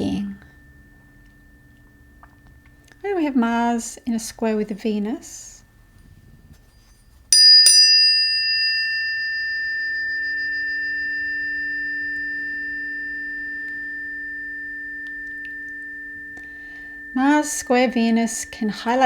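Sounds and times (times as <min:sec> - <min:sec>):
tuning forks ringing: 0:00.0 - 0:19.0.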